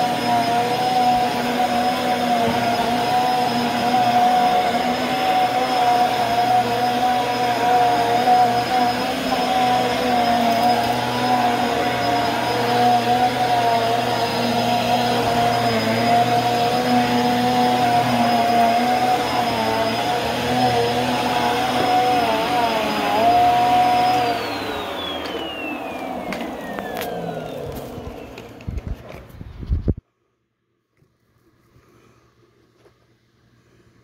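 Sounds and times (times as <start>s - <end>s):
vacuum motor winding down: 0.0s - 29.1s
vacuum cleaner running on carpet: 0.0s - 29.3s.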